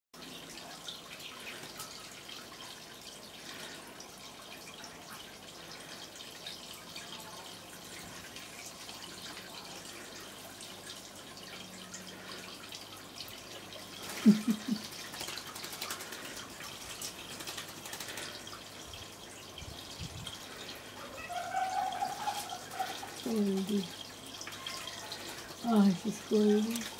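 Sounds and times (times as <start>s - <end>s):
fountain water trickling and splashing: 0.2s - 26.9s.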